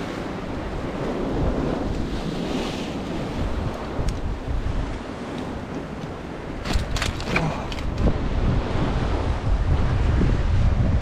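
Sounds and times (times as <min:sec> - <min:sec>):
ocean surf washing against rocks: 0:00.0 - 0:11.0
wind buffeting microphone: 0:00.0 - 0:11.0.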